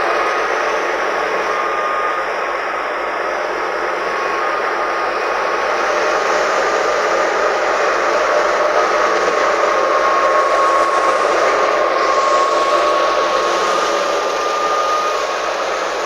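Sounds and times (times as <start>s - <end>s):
high mechanical hum: 0.0s - 16.0s.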